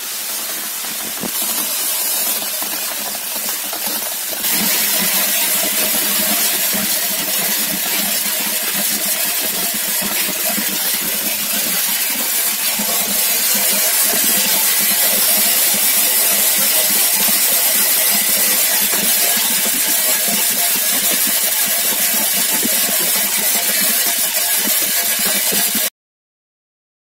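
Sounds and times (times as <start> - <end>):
machine hiss: 0.0 - 25.9.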